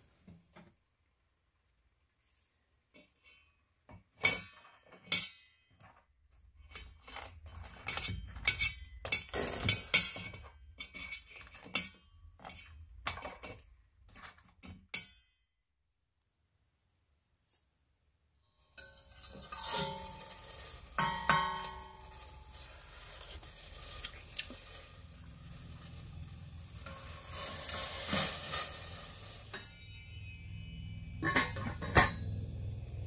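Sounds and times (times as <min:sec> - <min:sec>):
pots and utensils clattering: 0:03.0 - 0:15.3, 0:18.6 - 0:32.8.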